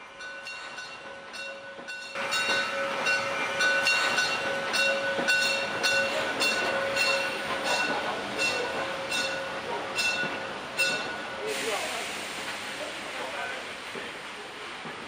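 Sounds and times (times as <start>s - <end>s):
steam train rolling past: 0.0s - 15.0s.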